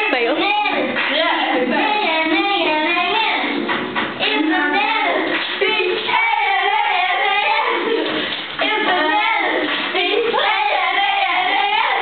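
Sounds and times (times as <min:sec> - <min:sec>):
girls singing into microphones: 0:00.0 - 0:12.0.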